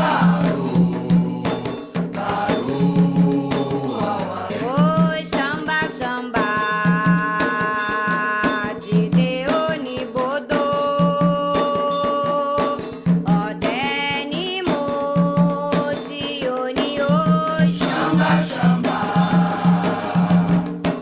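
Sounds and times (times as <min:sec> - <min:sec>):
hand drums steady beat: 0:00.0 - 0:21.0
sharp percussion strikes: 0:00.0 - 0:21.0.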